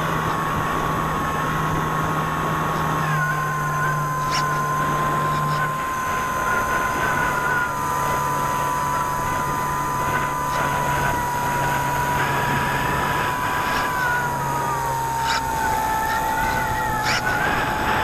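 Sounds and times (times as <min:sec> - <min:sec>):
electric motor and propeller whine: 0:00.0 - 0:18.0.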